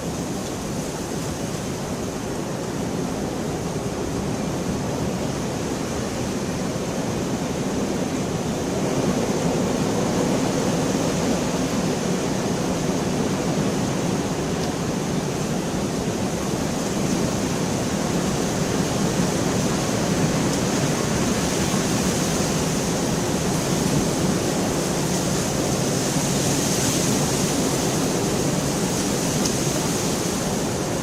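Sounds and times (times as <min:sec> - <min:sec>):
heavy rain falling: 0:04.2 - 0:31.0.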